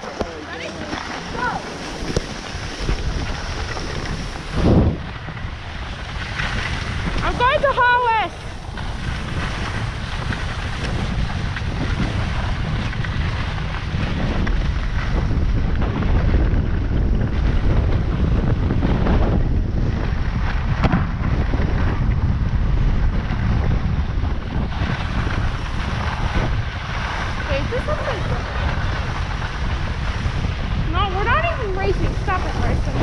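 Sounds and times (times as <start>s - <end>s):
skis sliding over snow: 0.0s - 33.0s
wind rushing over microphone: 0.0s - 33.0s.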